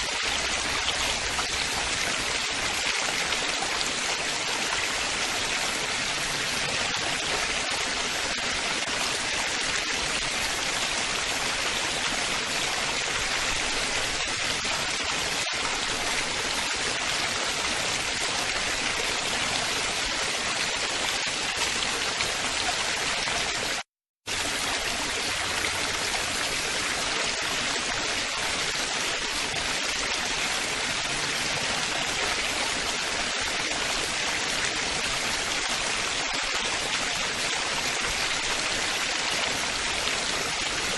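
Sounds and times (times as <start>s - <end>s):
running water splashing: 0.0s - 40.9s.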